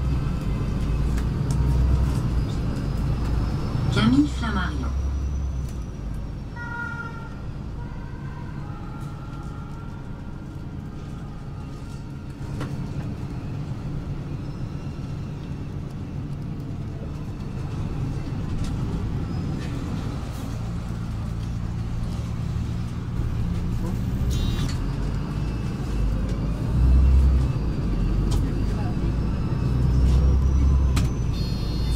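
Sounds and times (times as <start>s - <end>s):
bus engine running: 0.0s - 31.9s
road and tyre noise: 0.0s - 31.9s.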